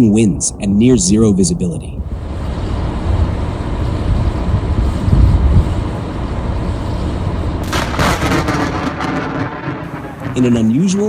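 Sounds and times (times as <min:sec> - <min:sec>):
storm wind on microphone: 0:00.0 - 0:11.0.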